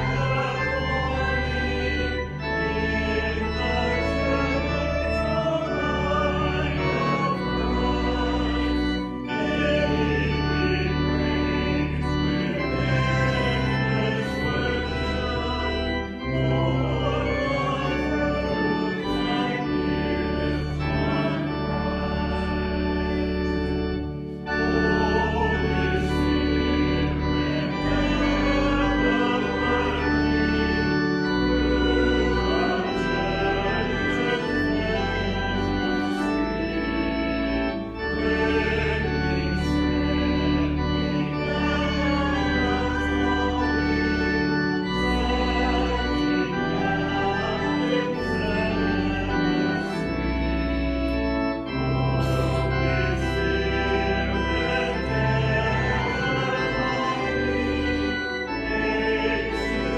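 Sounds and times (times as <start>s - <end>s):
organ playing slow chords: 0.0s - 59.9s.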